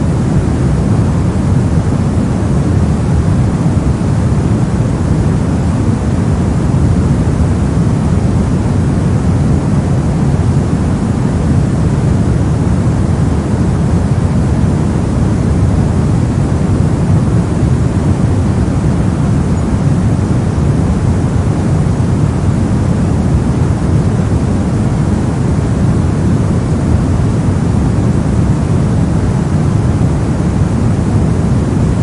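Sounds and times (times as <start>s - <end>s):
deep white noise hiss: 0.0s - 32.0s.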